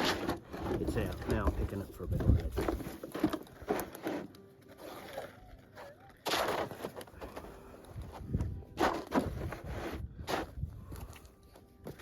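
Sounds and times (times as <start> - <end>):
dirt and gravel scraping: 0.0 - 12.0.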